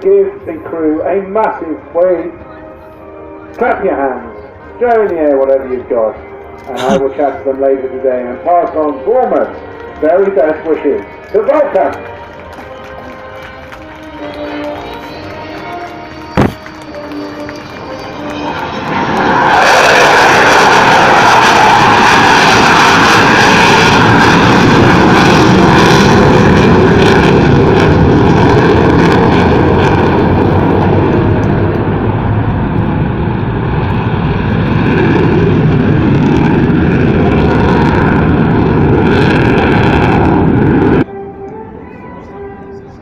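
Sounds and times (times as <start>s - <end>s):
jet aircraft roar: 0.0s - 43.0s.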